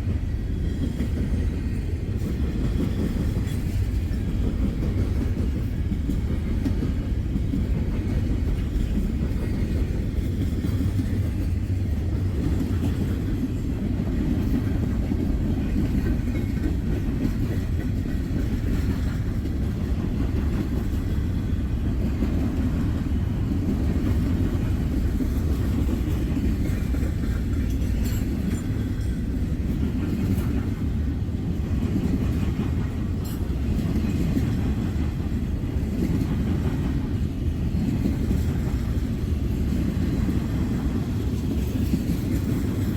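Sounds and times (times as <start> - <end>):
freight train cars rumbling: 0.0 - 42.9.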